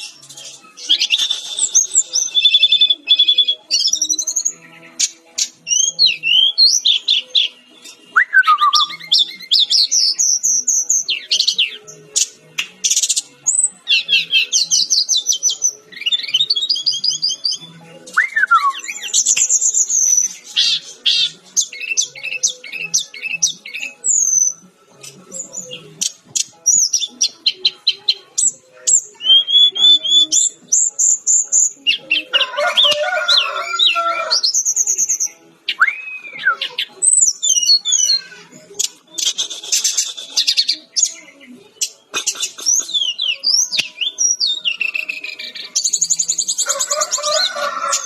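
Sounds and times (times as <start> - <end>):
flycatcher singing: 0.0 - 48.0.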